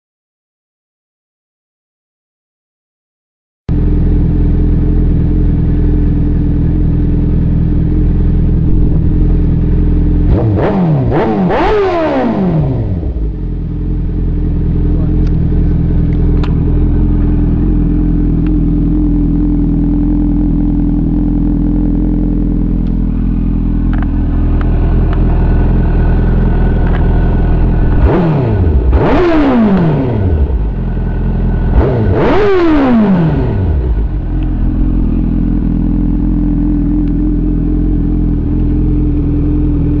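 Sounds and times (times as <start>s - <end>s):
motorcycle engine idling and revving: 3.7s - 40.0s.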